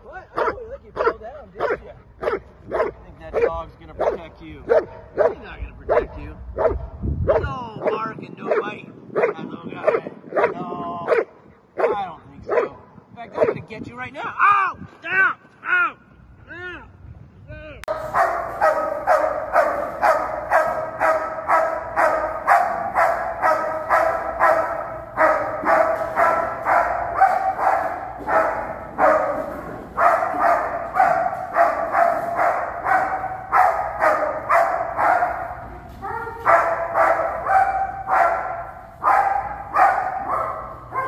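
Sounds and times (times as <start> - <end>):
dog barking: 0.4 - 12.8, 13.4 - 13.6, 17.9 - 41.0.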